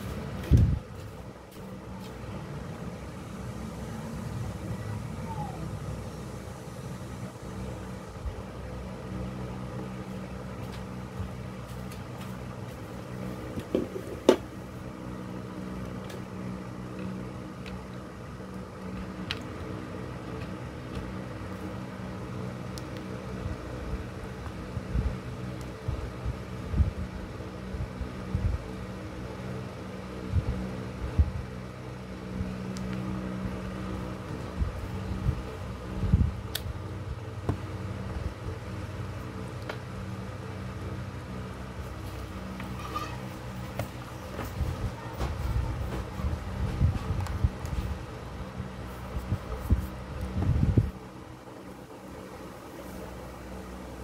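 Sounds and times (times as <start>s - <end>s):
fan motor hum: 0.0s - 54.0s.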